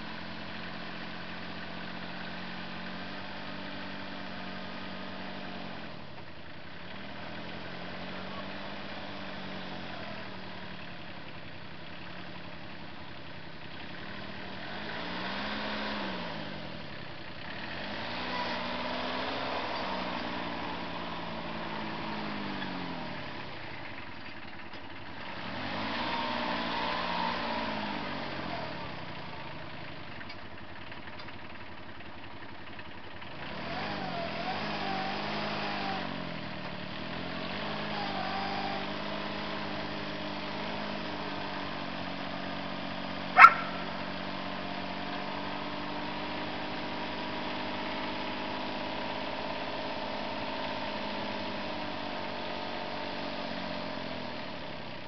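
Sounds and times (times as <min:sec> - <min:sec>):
vehicle engine revving: 0:00.0 - 0:24.0, 0:25.0 - 0:31.6, 0:32.4 - 0:55.0.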